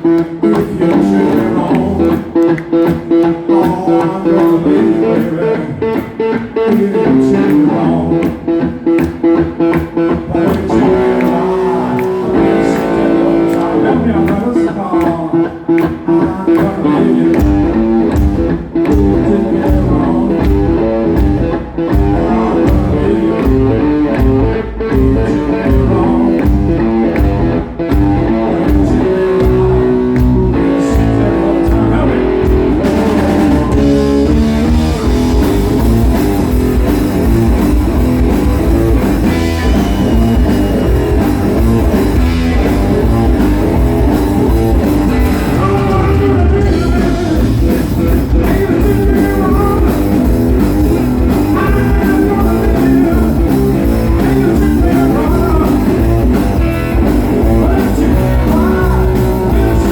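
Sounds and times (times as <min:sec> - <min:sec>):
electric blues band playing: 0:00.0 - 0:59.9
electric guitar: 0:00.0 - 0:59.9.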